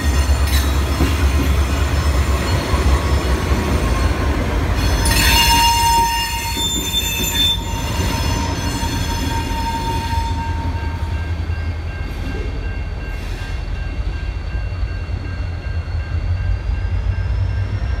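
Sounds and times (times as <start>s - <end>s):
crossing warning bell ringing: 0.0s - 18.0s
diesel locomotive engine rumbling: 0.0s - 18.0s
train wheel squeal: 0.0s - 18.0s.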